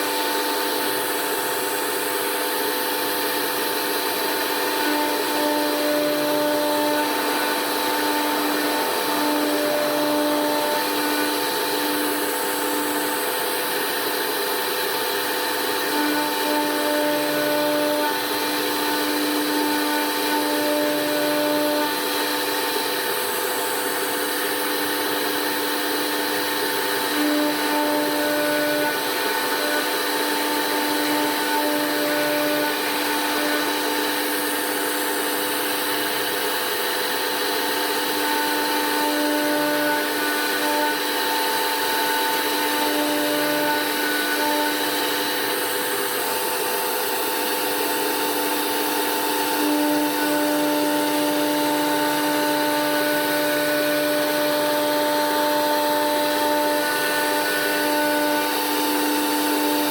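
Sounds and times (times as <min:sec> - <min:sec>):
router spindle whine: 0:00.0 - 0:59.9
motor tones: 0:03.2 - 0:46.4, 0:47.8 - 0:59.9.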